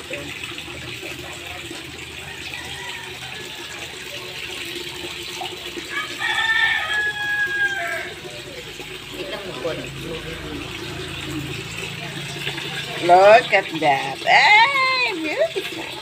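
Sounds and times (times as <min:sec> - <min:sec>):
running water in pond: 0:00.0 - 0:16.0.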